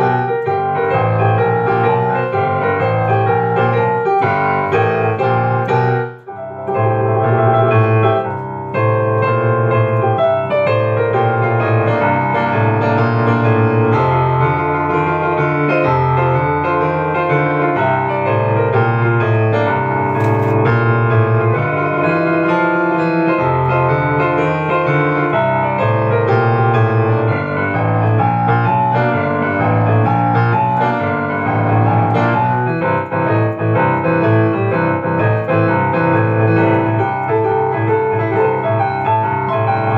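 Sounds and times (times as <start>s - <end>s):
upright piano playing: 0.0s - 39.9s.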